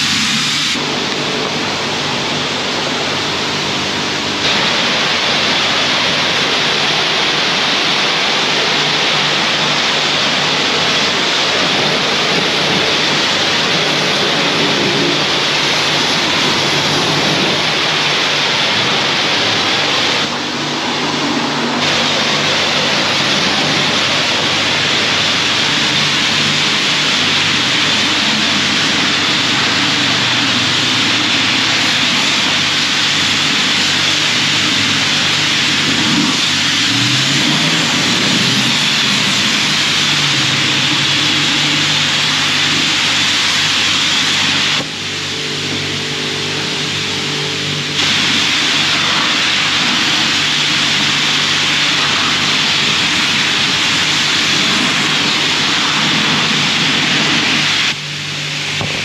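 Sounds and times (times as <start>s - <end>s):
high-pressure water spray hissing: 0.0s - 59.0s
low hum: 0.0s - 59.0s.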